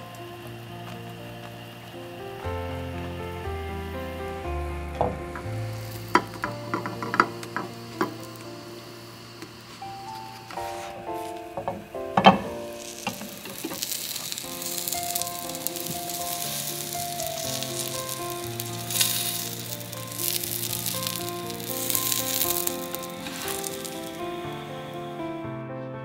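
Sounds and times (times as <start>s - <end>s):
bread sizzling in a frying pan: 0.0s - 25.2s
background music: 0.0s - 26.0s.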